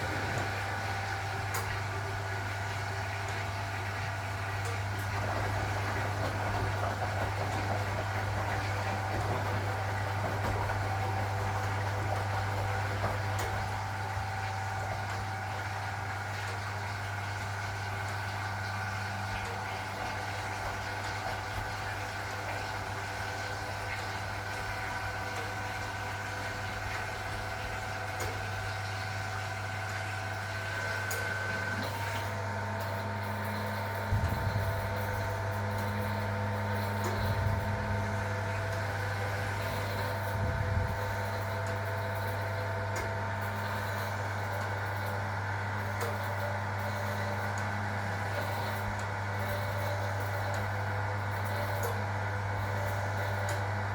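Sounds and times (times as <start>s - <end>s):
washing machine hum: 0.0s - 53.9s.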